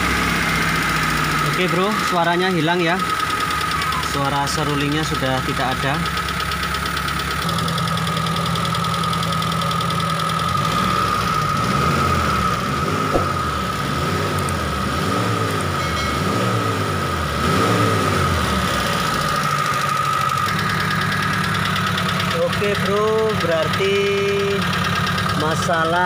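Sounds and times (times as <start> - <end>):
motorcycle engine revving: 0.0 - 23.8.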